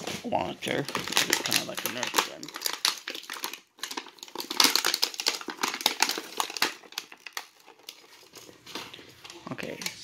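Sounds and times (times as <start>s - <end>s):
toy packaging crinkling: 0.4s - 10.0s.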